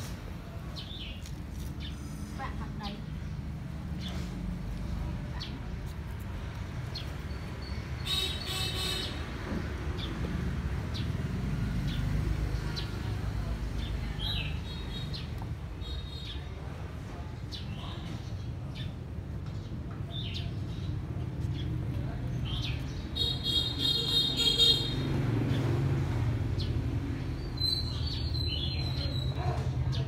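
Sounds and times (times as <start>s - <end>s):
small birds chirping: 0.0s - 16.6s, 17.3s - 30.0s.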